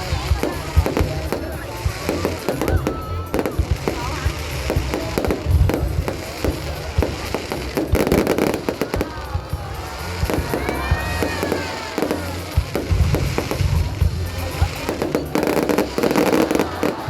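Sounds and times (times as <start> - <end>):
fireworks bangs and crackling: 0.0 - 17.0
whistling fireworks: 0.0 - 17.0.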